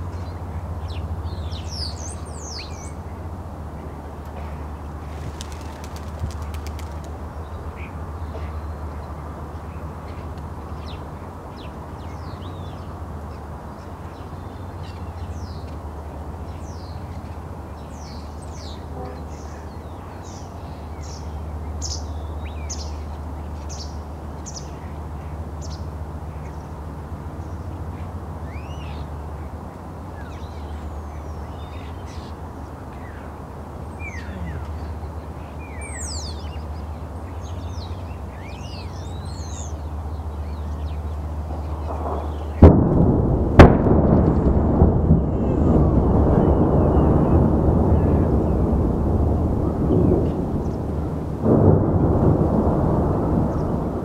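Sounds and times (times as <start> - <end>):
low background rumble: 0.0 - 54.0.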